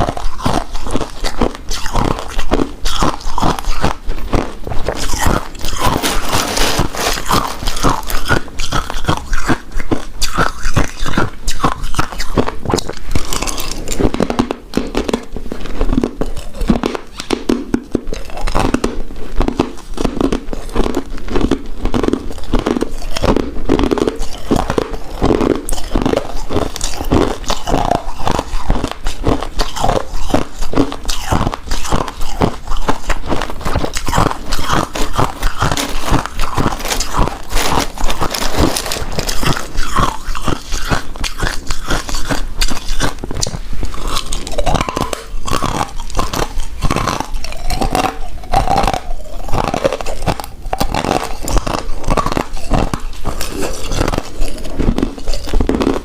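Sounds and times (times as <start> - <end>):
close chewing with wet mouth clicks: 0.0 - 56.0.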